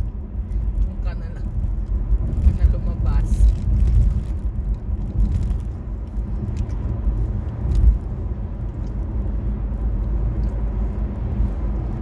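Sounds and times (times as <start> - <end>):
car engine rumble: 0.0 - 12.0
tyres on the road: 0.0 - 12.0.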